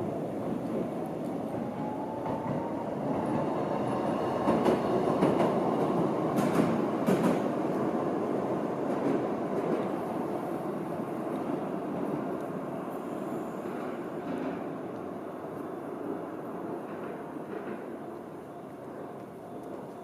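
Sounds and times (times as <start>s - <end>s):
streetcar wheels on rails: 0.0s - 20.0s.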